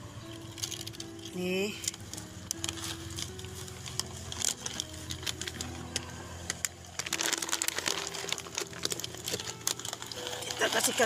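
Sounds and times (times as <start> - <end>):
plastic food trays crackling: 0.2 - 11.0.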